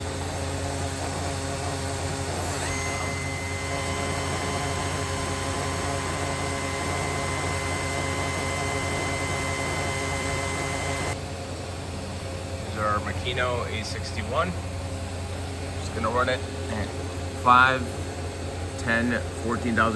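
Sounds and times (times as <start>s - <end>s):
machine low hum: 0.0s - 19.9s
high steady whine: 0.1s - 19.9s.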